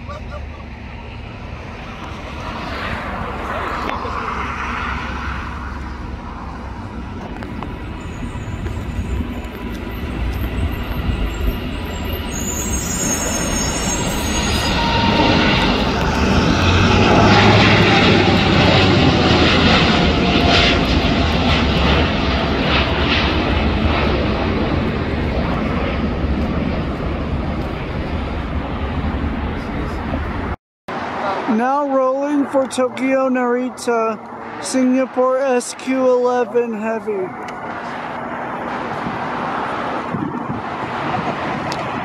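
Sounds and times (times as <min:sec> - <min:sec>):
jet taking off: 0:00.0 - 0:42.0.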